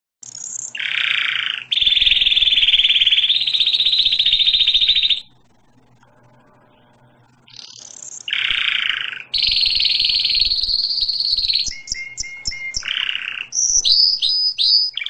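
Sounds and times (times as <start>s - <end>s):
faint low hum: 0.4s - 15.0s.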